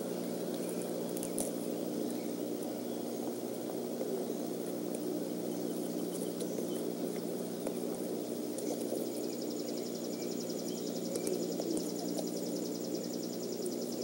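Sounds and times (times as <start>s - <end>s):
low steady hum: 0.0s - 14.0s
outdoor background noise: 0.0s - 14.0s.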